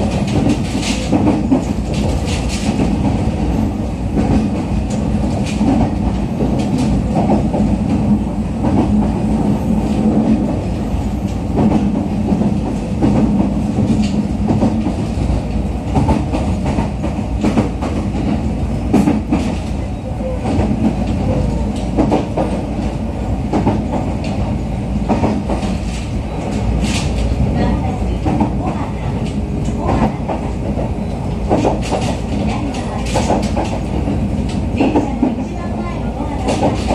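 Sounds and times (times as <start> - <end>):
train wheels rumbling on rail: 0.0 - 36.9.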